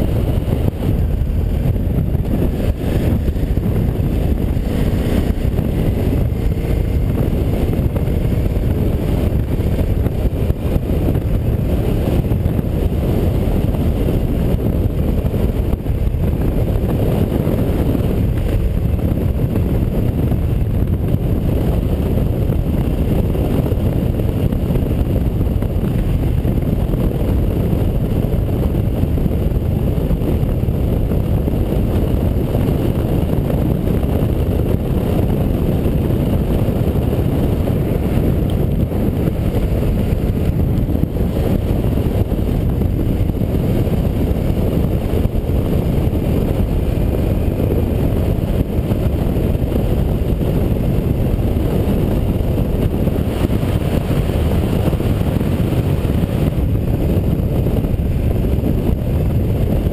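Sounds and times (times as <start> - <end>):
motorcycle engine droning: 0.0 - 59.9
wind rushing on microphone: 0.0 - 59.9.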